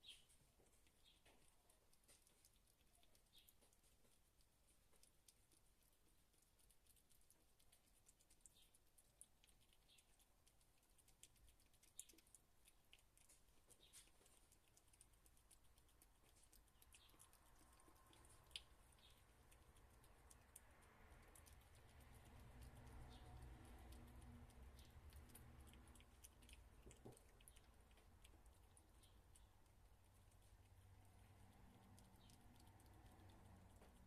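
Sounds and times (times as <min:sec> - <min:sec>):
light clicks and patters: 0:00.0 - 0:34.0.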